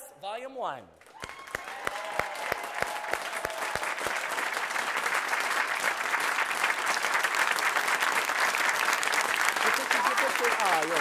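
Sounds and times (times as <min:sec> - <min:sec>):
audience applause: 0:01.1 - 0:11.0.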